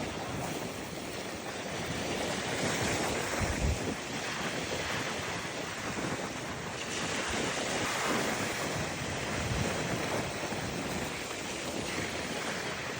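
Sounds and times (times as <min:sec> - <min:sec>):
ocean waves breaking on beach: 0:00.0 - 0:12.9
wind noise on microphone: 0:00.0 - 0:12.9.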